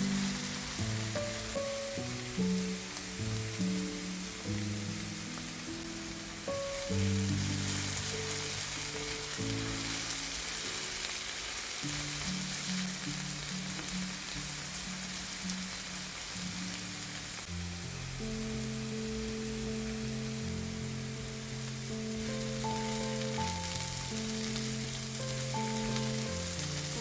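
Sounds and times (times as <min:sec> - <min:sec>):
background music with low notes: 0:00.0 - 0:27.0
vegetables sizzling in a pan: 0:00.0 - 0:27.0.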